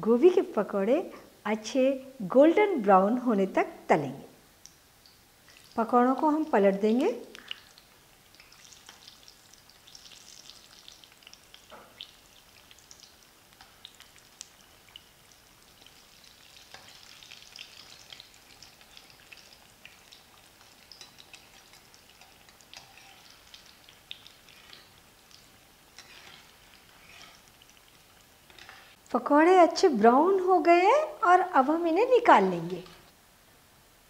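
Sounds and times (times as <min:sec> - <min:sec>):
fritters sizzling in hot oil: 0:00.1 - 0:33.2.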